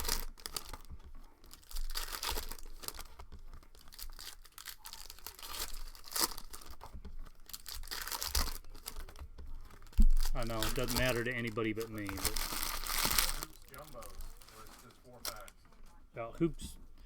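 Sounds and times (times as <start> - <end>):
foil wrappers crinkling and tearing: 0.0 - 15.8.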